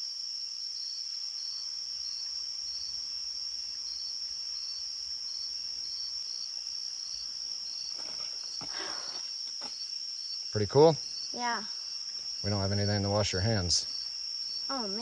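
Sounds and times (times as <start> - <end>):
insect chirping: 0.0 - 15.0
insect high-pitched trill: 0.0 - 15.0.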